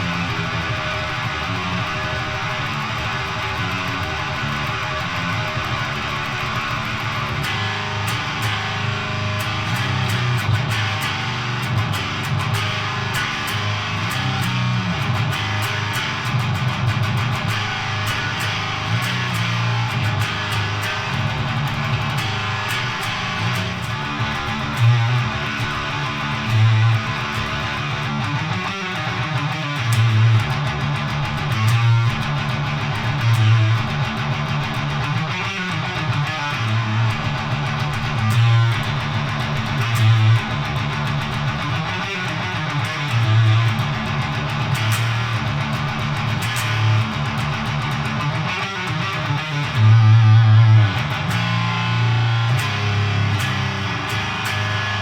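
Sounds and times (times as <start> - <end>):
distorted electric guitar riffs: 0.0 - 55.0.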